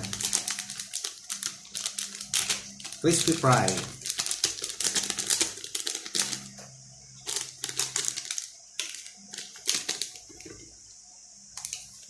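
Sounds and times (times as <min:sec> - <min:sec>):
plastic packet crackling: 0:00.0 - 0:06.6, 0:07.2 - 0:10.6
powder mix pouring: 0:00.0 - 0:10.9.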